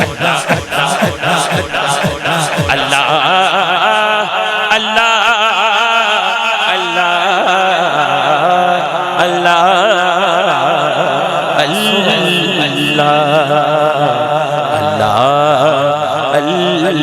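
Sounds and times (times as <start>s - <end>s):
man chanting with ornamented notes: 0.0s - 17.0s.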